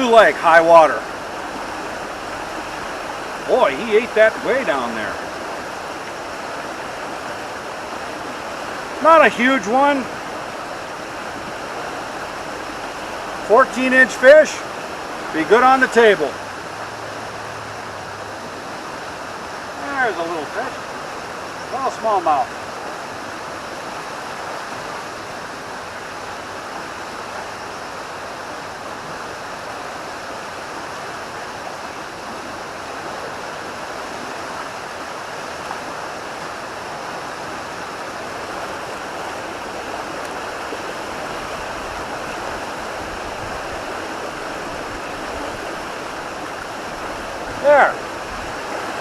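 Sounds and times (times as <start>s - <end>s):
river water rushing: 0.0s - 49.0s.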